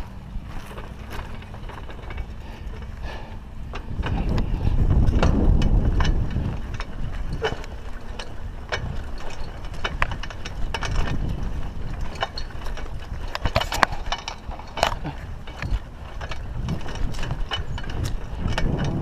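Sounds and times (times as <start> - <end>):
bike clicks and rattles: 0.0 - 19.0
steady low rumble: 0.0 - 19.0.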